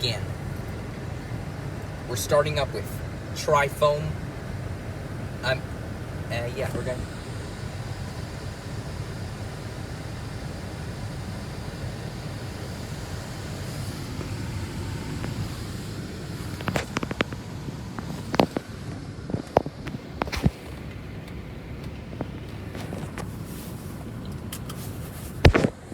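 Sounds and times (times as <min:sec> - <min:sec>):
machine hum: 0:00.0 - 0:24.5
car wash spraying hiss: 0:00.0 - 0:25.9.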